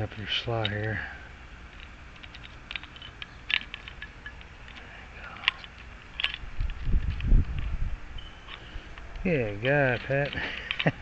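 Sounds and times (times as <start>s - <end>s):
light clicks of metal lock parts: 0.0s - 1.1s, 1.7s - 11.0s.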